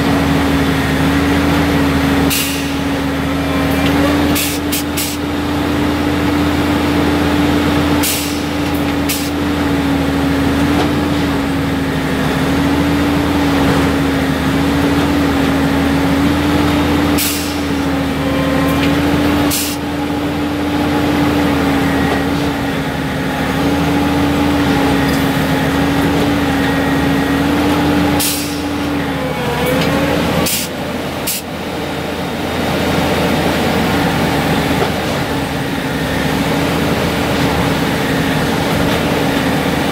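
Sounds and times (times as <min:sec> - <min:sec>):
machine engine hum: 0:00.0 - 0:39.9.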